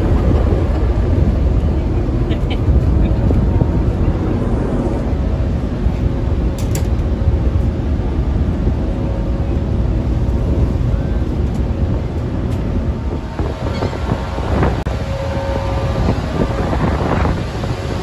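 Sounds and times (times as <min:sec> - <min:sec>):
ferry engine rumble: 0:00.0 - 0:18.0
wind buffeting microphone: 0:00.0 - 0:18.0.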